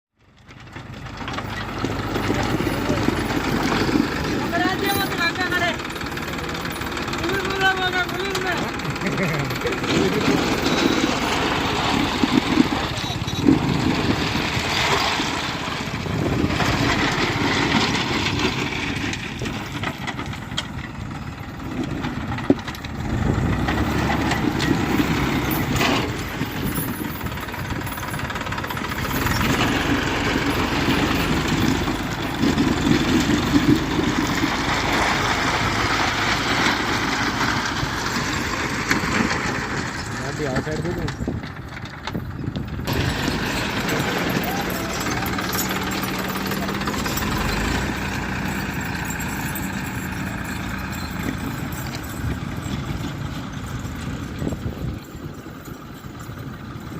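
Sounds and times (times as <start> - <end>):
tractor diesel engine running: 0.1 - 56.9.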